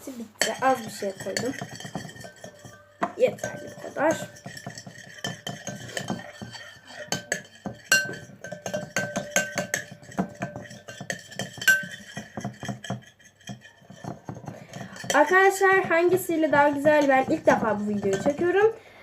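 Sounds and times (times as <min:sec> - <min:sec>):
spoon scraping plastic bowl: 0:00.0 - 0:18.8.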